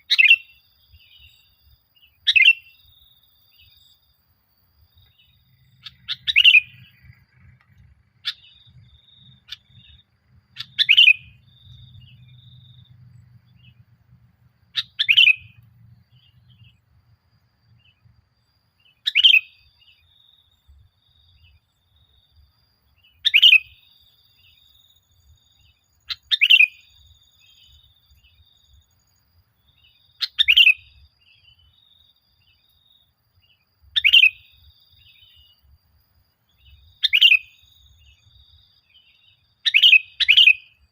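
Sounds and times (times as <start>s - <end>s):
bulbul singing bright phrases: 0.0s - 28.9s, 29.6s - 35.8s, 36.4s - 40.9s.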